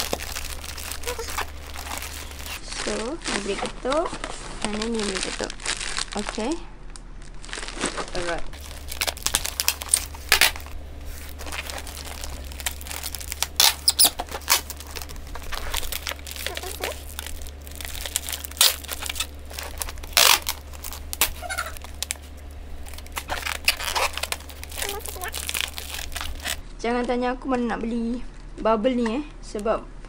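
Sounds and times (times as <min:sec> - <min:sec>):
packing tape ripping off roll: 0:00.0 - 0:06.3, 0:07.4 - 0:26.6
bubble wrap crinkling: 0:00.0 - 0:26.6.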